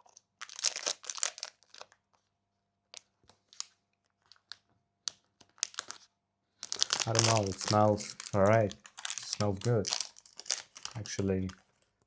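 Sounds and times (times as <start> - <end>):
packaging crinkling and rustling: 0.0 - 2.3, 2.9 - 12.0.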